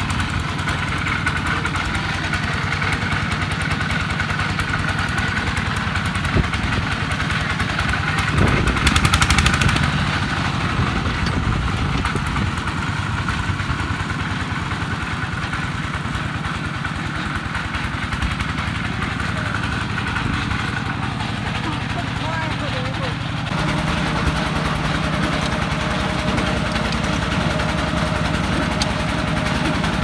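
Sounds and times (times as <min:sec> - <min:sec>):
diesel engine chugging: 0:00.0 - 0:30.0.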